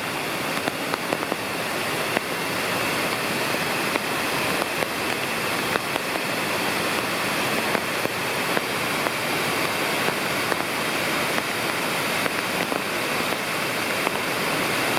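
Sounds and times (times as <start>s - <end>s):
waterfall pouring and splashing: 0.0s - 14.9s.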